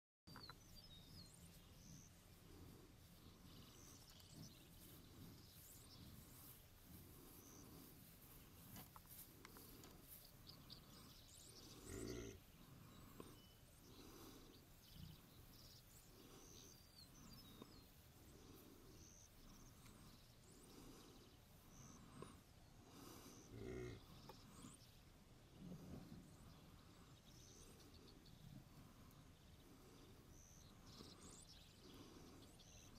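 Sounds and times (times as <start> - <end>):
faint bird chirps: 0.3 - 6.6, 9.5 - 32.9
soft rhythmic grazing sounds: 0.3 - 32.9.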